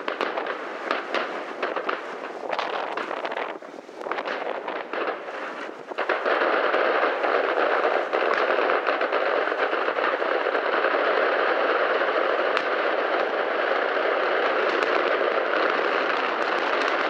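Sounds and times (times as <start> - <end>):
firework bangs: 0.0 - 17.0
rapid crackling fireworks: 0.0 - 17.0.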